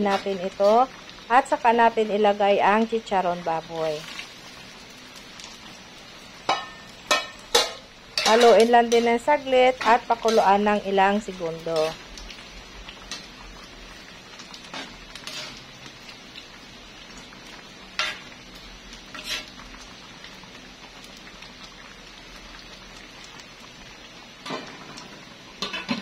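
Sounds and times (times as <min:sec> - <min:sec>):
stew bubbling in a wok: 0:00.0 - 0:26.0.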